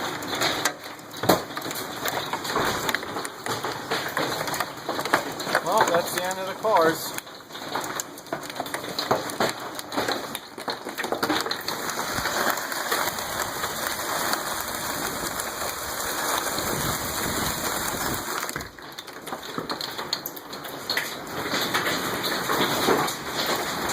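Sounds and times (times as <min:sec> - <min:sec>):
hail and heavy rain: 0:00.0 - 0:23.9.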